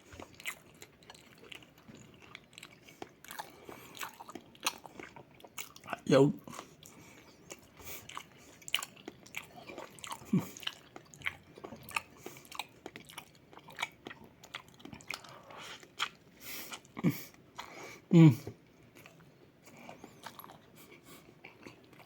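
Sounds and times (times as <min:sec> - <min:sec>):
chewing crunchy food: 0:00.0 - 0:22.0.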